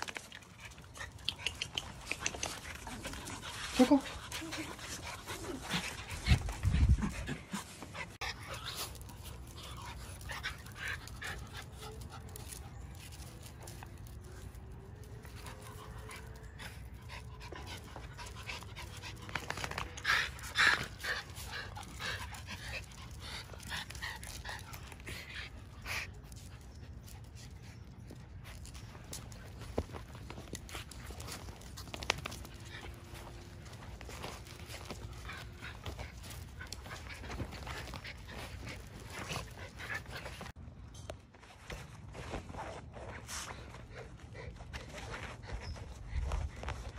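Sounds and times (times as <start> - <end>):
puppies panting: 0.0 - 40.6, 43.0 - 46.9
puppies scuffling on paving: 0.0 - 46.9.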